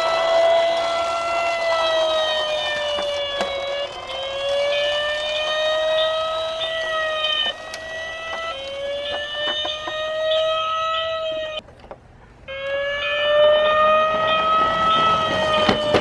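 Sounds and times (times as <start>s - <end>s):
siren wailing: 0.0s - 11.6s, 12.5s - 16.0s.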